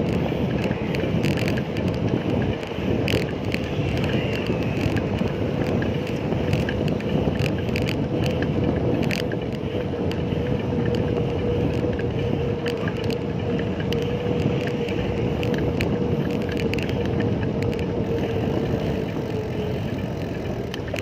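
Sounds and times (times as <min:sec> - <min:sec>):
bicycle road and wind rumble: 0:00.0 - 0:21.0
small clicks and rattles: 0:00.0 - 0:21.0.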